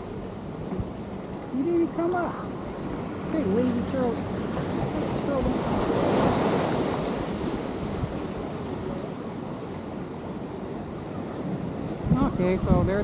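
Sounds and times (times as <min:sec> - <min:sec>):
wave washing on shore: 0:00.0 - 0:13.0
wind on microphone: 0:02.5 - 0:13.0.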